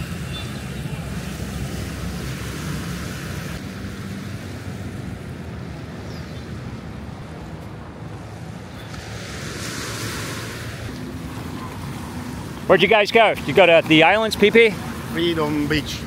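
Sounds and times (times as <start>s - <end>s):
small waves washing onto sand: 0.0s - 16.0s.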